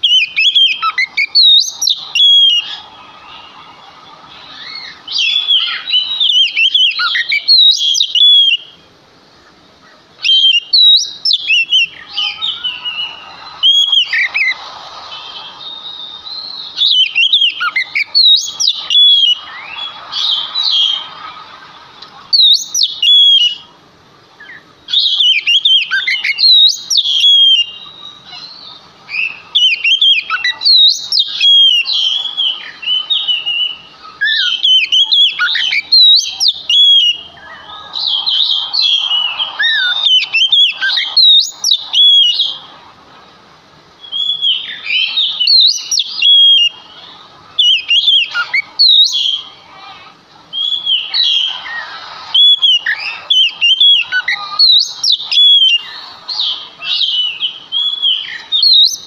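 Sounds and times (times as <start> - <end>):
bird singing whistled phrases: 0.0 - 8.9, 10.2 - 23.7, 24.4 - 42.7, 44.0 - 49.6, 50.5 - 59.0.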